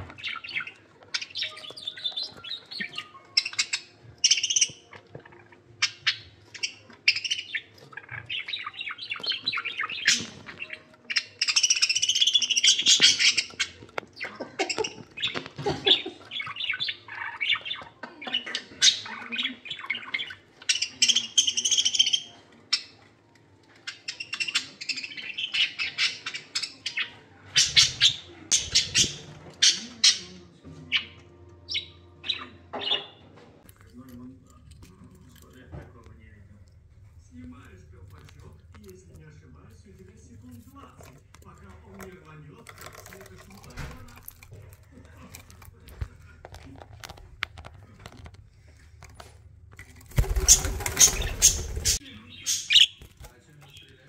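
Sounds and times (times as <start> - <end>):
budgerigars chirping and warbling: 0.0 - 23.1, 23.7 - 33.4, 37.4 - 47.2, 50.1 - 54.0.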